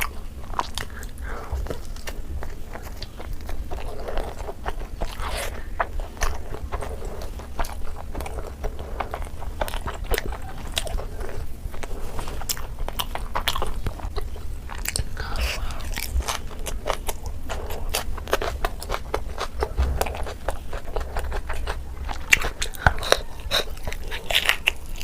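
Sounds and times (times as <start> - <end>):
person biting and chewing food: 0.0 - 25.0
steady low hum: 0.0 - 25.0.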